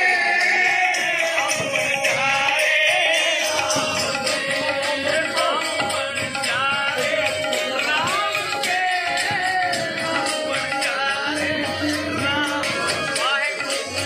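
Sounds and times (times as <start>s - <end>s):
hand percussion strokes: 0.0s - 14.0s
person singing: 0.0s - 14.0s.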